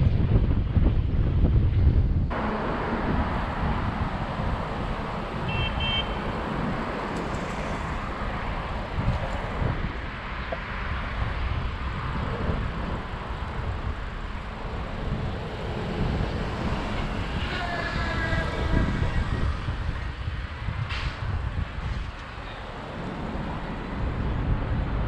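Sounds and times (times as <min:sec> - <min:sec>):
street traffic: 0:00.0 - 0:25.0
wind rumbling on microphone: 0:00.0 - 0:25.0.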